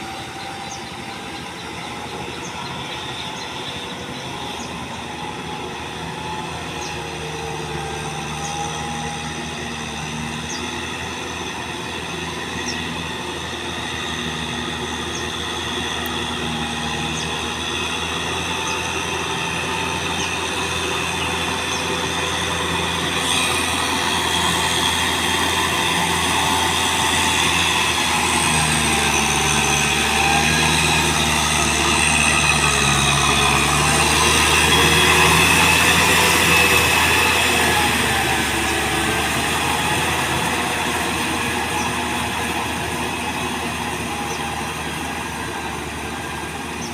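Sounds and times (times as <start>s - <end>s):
high metallic whining: 0.0s - 46.9s
tractor diesel engine under load: 0.0s - 46.9s.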